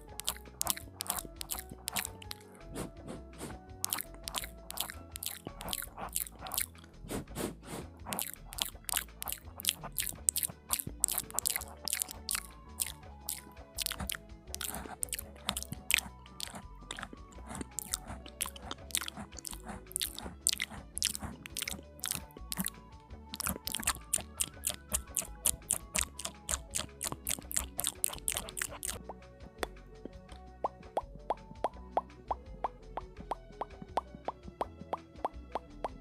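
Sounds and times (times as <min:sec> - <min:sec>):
soft background music: 0:00.0 - 0:36.0
wet mouth clicks and smacks: 0:00.0 - 0:36.0.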